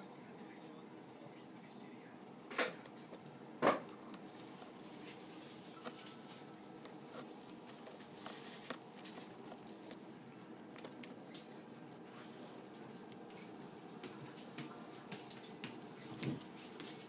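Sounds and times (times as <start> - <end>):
guinea pig chewing: 2.9 - 17.0.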